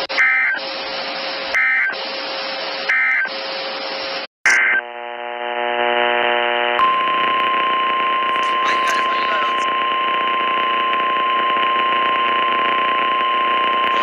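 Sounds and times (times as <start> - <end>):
radio hiss: 0.0 - 14.0
steady buzzing tone: 0.0 - 14.0.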